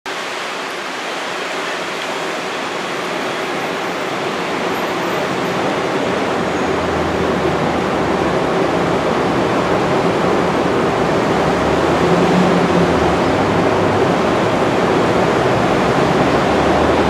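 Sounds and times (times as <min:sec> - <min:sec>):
train rolling rumble: 0:00.2 - 0:17.0.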